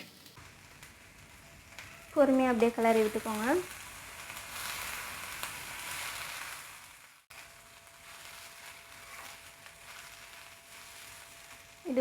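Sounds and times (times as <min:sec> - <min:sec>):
rice sizzling in a hot pan: 0:00.0 - 0:12.0.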